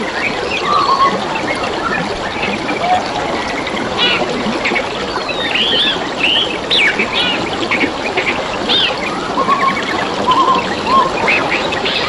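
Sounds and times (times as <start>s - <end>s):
trickle of flowing water: 0.0s - 12.0s
birds chirping and calling: 0.2s - 12.0s.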